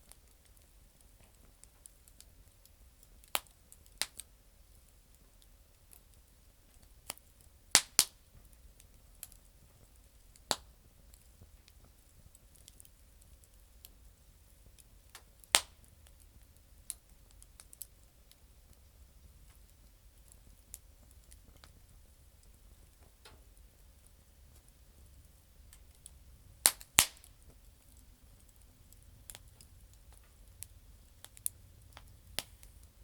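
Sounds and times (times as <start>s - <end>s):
campfire crackling pops: 0.1s - 33.0s.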